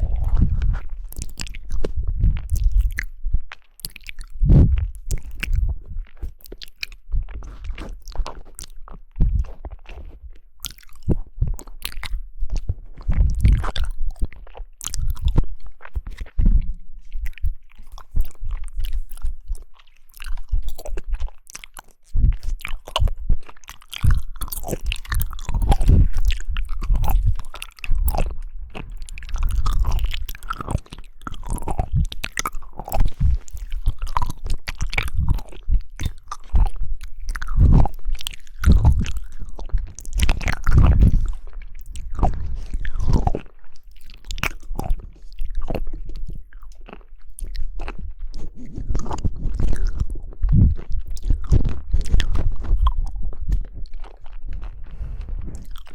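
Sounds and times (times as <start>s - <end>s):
chewing jelly: 0.0s - 55.9s.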